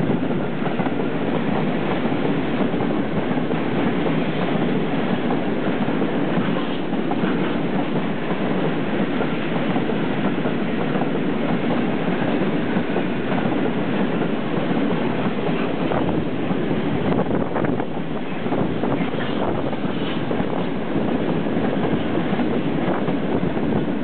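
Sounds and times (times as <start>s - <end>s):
train wheels running on rails: 0.0s - 24.0s.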